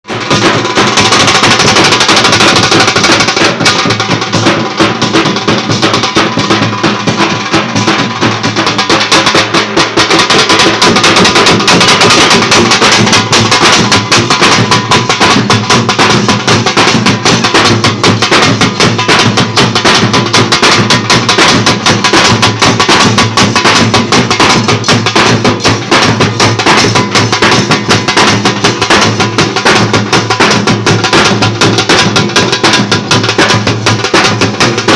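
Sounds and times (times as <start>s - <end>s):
fast dense drumming: 0.0s - 34.9s.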